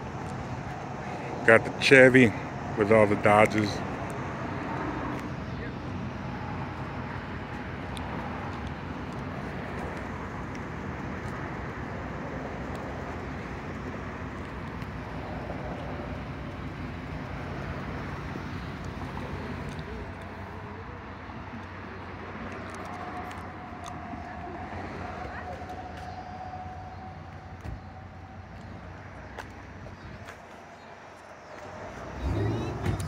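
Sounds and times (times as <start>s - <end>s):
traffic noise: 0.0s - 33.0s
vehicle engine humming: 0.0s - 33.0s.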